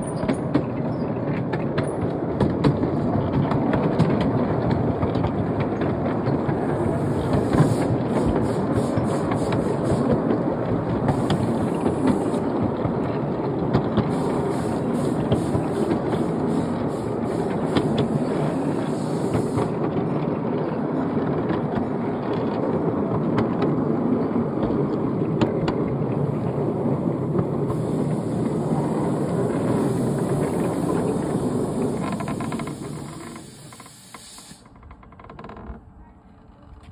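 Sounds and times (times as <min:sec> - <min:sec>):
sharp clicks on rails: 0:00.0 - 0:35.9
miniature train wheels rumbling: 0:00.0 - 0:36.9.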